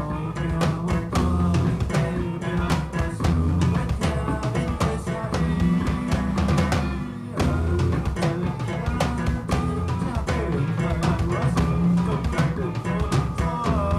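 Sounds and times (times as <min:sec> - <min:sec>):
drum kit: 0:00.0 - 0:13.9
live band playing: 0:00.0 - 0:13.9
heavy bass line: 0:00.1 - 0:13.9.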